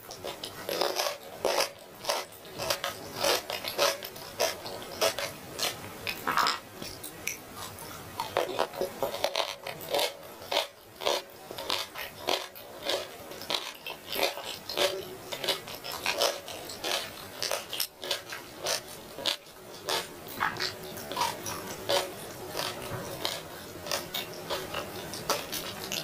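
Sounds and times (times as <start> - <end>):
person chewing and lip-smacking: 0.0 - 26.0.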